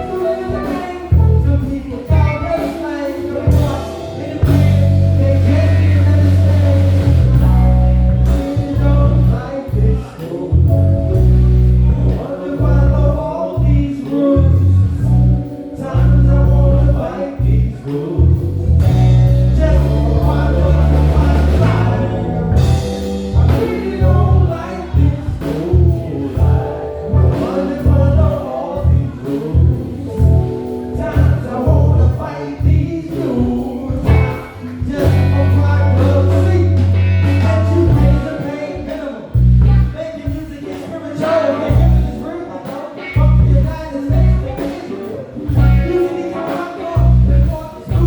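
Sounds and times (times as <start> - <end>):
drums: 0.0 - 48.0
electric bass: 0.0 - 48.0
lead melody line: 0.0 - 48.0.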